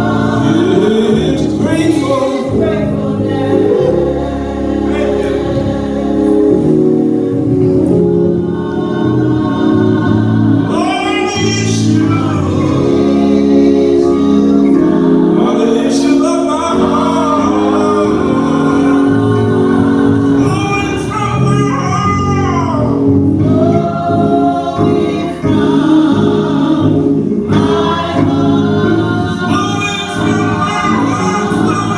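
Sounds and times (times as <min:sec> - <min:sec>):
gospel choir singing: 0:00.0 - 0:31.9
sustained accompanying chords: 0:00.0 - 0:31.9.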